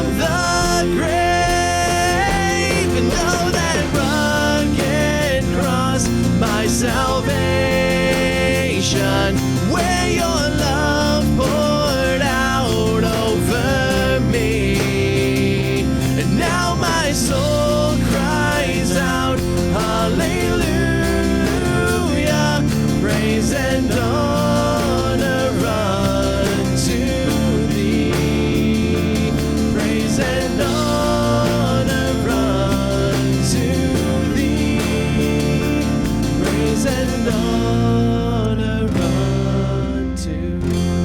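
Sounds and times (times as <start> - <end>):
acoustic guitar: 0.0 - 41.0
praise band playing: 0.0 - 41.0.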